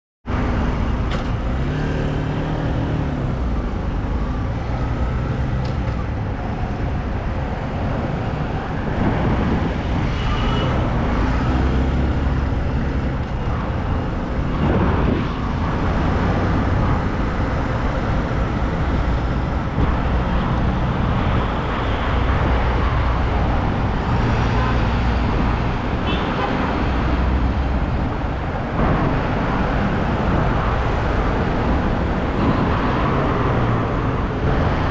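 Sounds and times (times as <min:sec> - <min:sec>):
road and traffic noise: 0:00.2 - 0:34.9.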